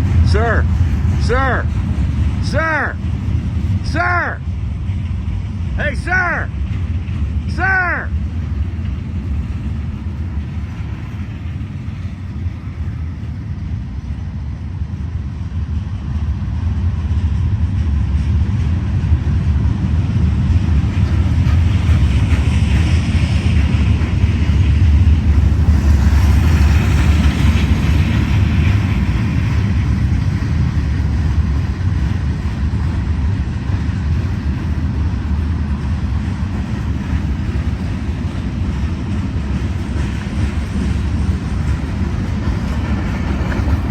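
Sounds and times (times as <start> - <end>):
freight train wheels rumbling on track: 0.0 - 43.9.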